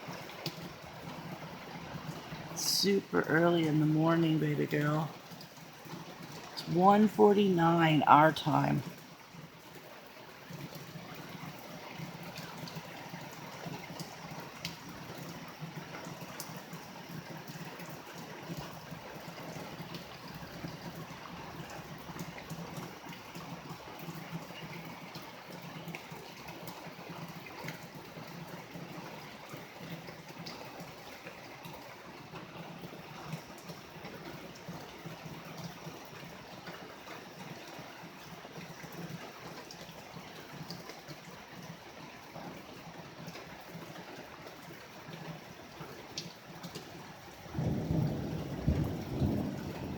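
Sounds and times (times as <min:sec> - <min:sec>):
steady rain: 0:00.0 - 0:49.9
water dripping: 0:00.0 - 0:49.9
water trickling and gurgling: 0:00.0 - 0:49.9.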